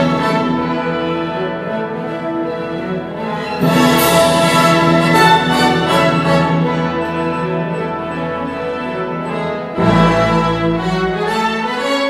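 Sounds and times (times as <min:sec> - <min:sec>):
classical orchestral music: 0:00.0 - 0:12.0.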